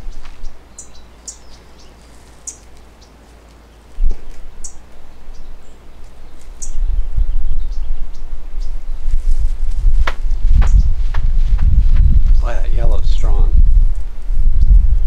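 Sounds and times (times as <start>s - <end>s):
small birds chirping: 0.0s - 13.5s
low rumble on the microphone: 0.0s - 15.0s.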